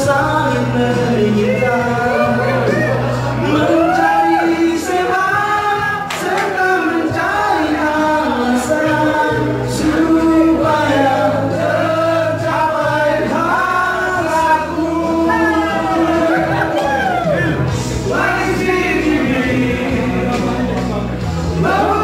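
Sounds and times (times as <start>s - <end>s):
male voices singing together: 0.0s - 22.0s
steady bass line: 0.0s - 22.0s.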